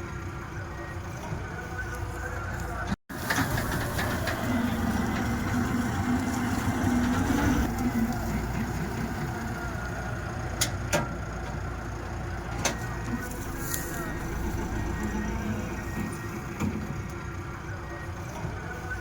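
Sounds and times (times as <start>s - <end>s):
combine harvester engine drone: 0.0s - 19.0s.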